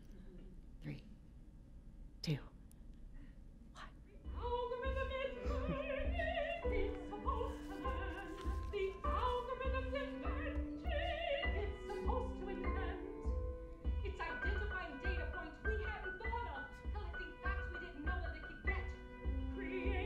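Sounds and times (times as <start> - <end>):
operatic singing with vibrato: 3.8 - 20.0.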